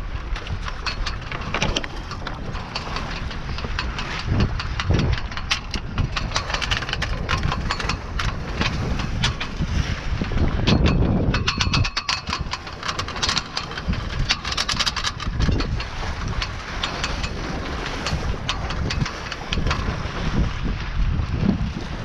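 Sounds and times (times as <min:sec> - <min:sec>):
water slapping against hull: 0:00.0 - 0:22.0
wind rumbling on microphone: 0:00.0 - 0:22.0.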